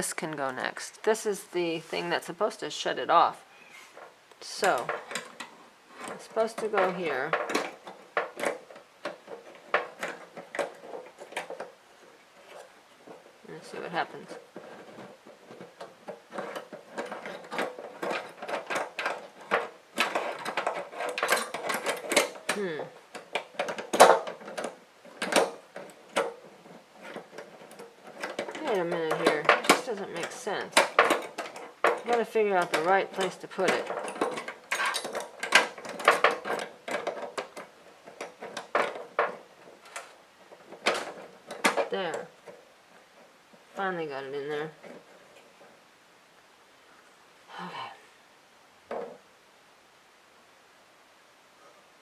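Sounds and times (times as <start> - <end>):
metal mechanism clicking and rattling: 3.9 - 45.8.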